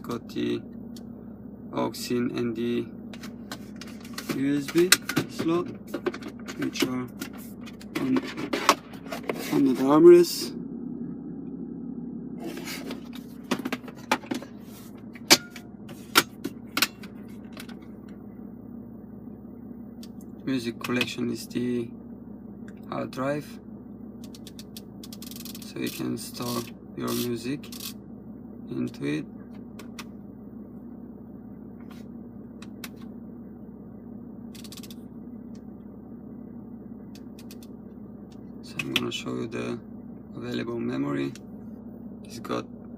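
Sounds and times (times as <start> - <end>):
diesel engine idling: 0.0 - 42.9
steady low hum: 0.0 - 42.9.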